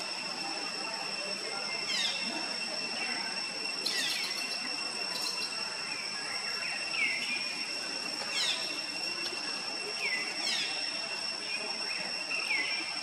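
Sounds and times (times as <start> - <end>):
steady high-pitched drone: 0.0 - 13.0.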